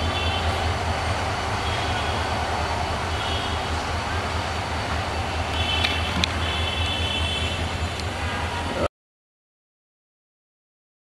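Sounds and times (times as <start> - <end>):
diesel locomotive idling: 0.0 - 8.9.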